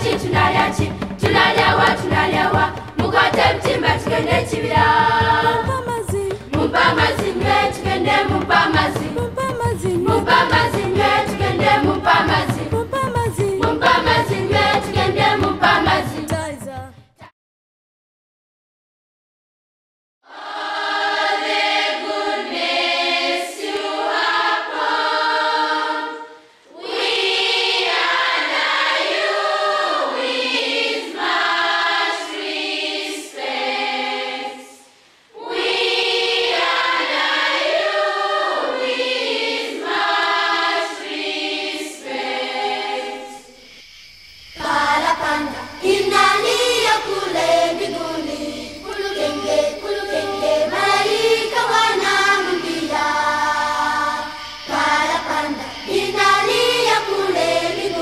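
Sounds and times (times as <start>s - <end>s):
girls' choir singing in harmony: 0.0s - 16.4s, 20.3s - 43.7s, 44.6s - 58.0s.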